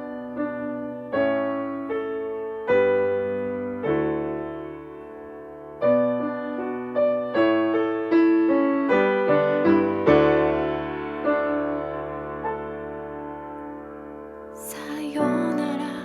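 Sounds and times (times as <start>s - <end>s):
solo piano chords: 0.0s - 16.0s.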